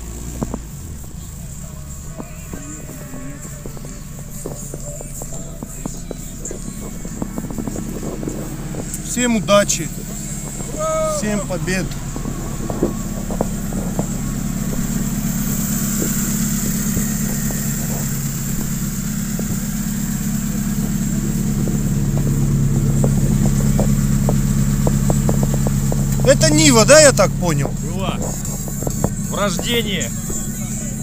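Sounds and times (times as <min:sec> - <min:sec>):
off-road vehicle engine idling: 0:00.0 - 0:31.0.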